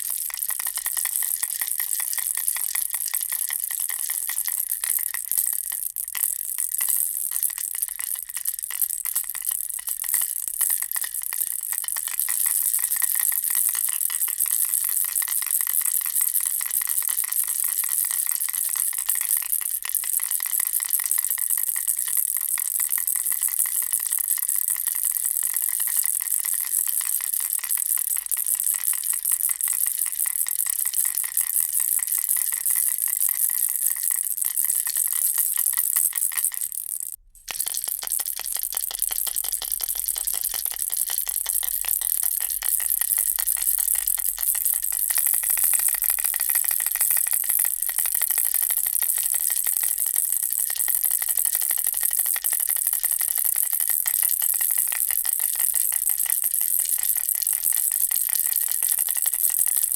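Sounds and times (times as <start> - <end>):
baby rattle shaken: 0.0 - 59.9.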